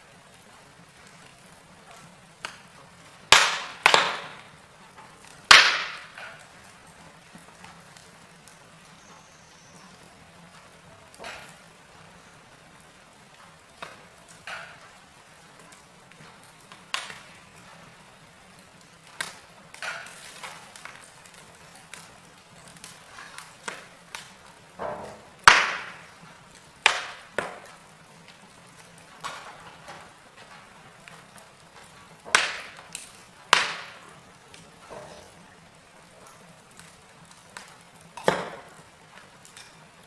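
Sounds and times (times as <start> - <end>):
faint steady hiss: 0.0 - 40.0
wood fire crackling: 0.0 - 40.0.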